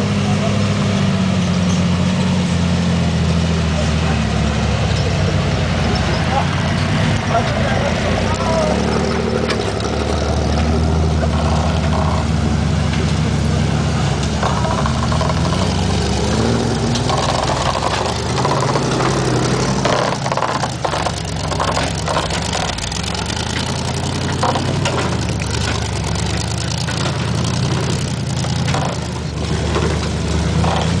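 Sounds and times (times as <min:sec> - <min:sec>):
engine revving under load: 0:00.0 - 0:31.0
road noise: 0:00.0 - 0:31.0.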